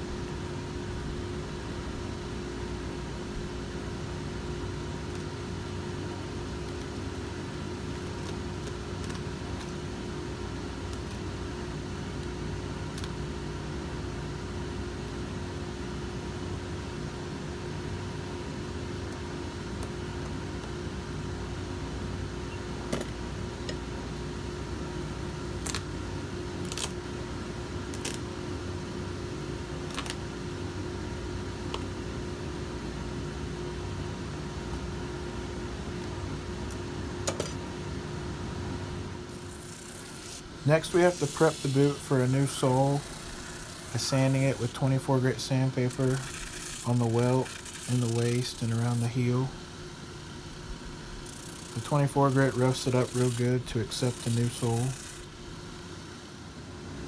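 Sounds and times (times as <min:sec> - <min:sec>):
shop machinery hum: 0:00.0 - 0:57.0.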